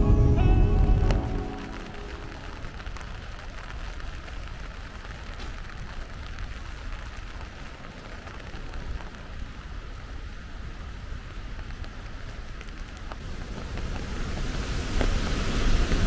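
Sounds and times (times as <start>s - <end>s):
rushing water: 0.0s - 10.3s, 12.7s - 16.0s
steady rain: 0.0s - 16.0s.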